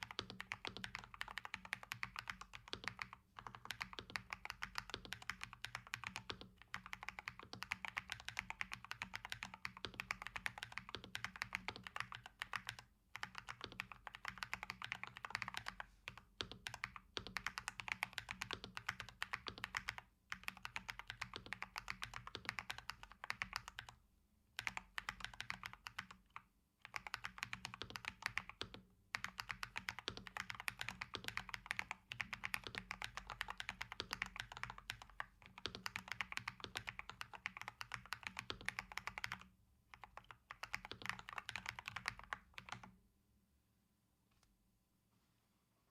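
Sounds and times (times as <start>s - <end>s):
mechanical keyboard typing: 0.0s - 24.0s, 24.6s - 42.9s.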